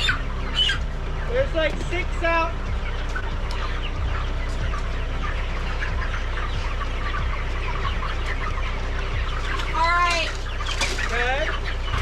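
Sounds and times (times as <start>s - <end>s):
chickens clucking and peeping: 0.0s - 12.0s.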